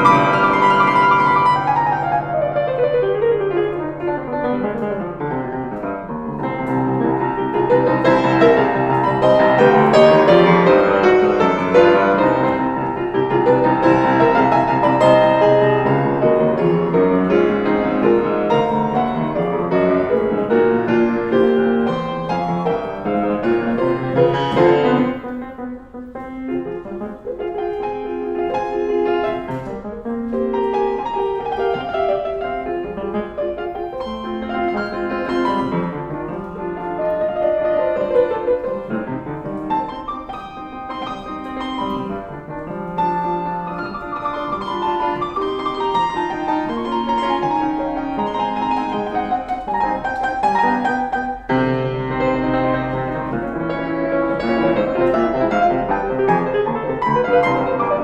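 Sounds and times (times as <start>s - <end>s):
solo piano piece: 0.0s - 58.0s.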